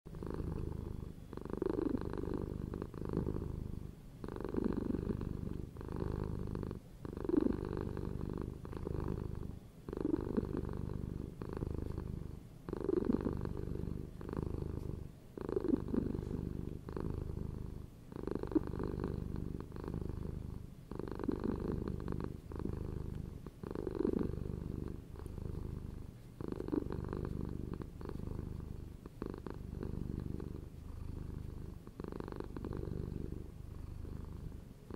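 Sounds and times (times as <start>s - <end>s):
cat purring: 0.1s - 34.9s.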